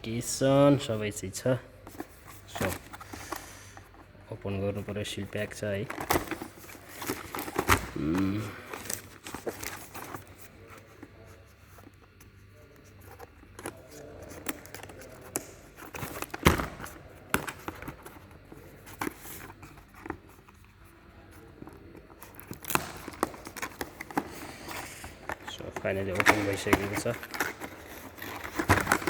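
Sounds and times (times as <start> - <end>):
package clicks and scrapes: 1.8 - 4.1, 5.7 - 29.0
plastic rustling: 1.8 - 29.0.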